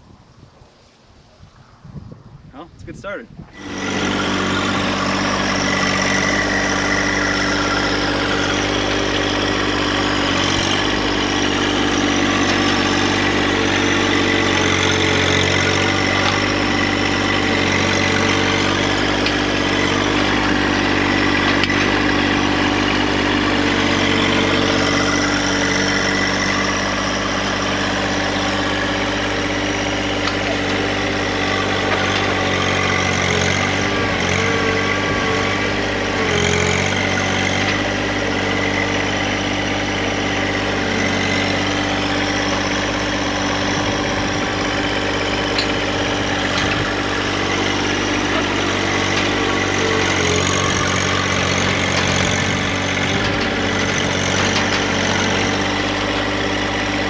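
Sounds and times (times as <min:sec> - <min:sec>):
tractor diesel engine running: 0:03.4 - 0:57.0.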